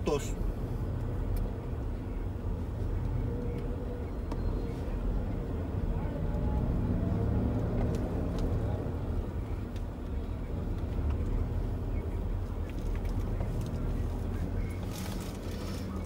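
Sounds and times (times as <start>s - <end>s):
car driving slowly rumble: 0.0s - 16.0s.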